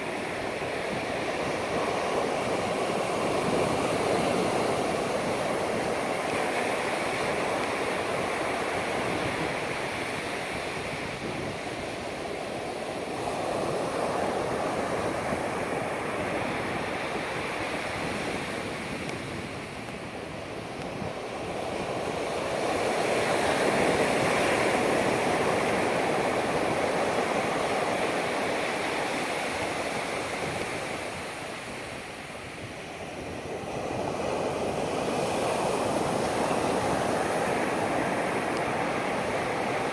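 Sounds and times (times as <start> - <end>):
surf breaking on a beach: 0.0 - 39.9.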